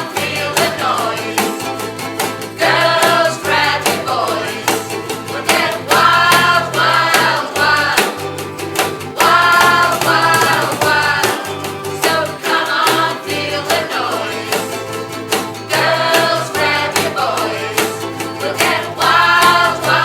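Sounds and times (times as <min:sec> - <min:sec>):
bass line: 0:00.0 - 0:20.0
guitar: 0:00.0 - 0:20.0
voices singing: 0:00.0 - 0:20.0.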